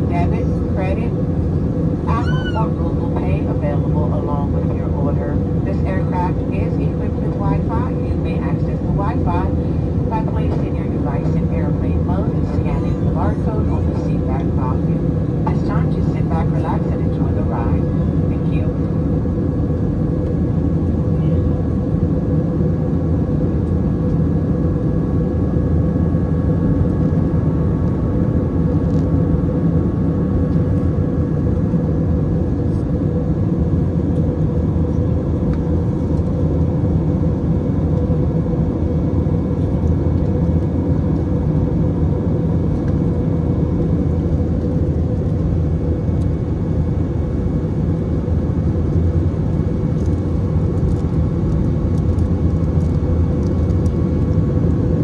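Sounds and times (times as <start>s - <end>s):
faint steady whine: 0.0s - 55.0s
jet engines and rushing air: 0.0s - 55.0s.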